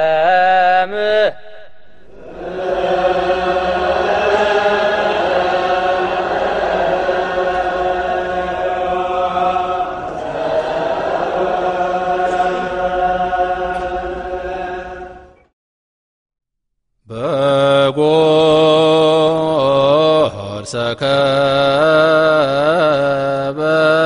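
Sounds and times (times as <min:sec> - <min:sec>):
choir chanting a hymn: 0:00.0 - 0:15.5, 0:17.1 - 0:24.0.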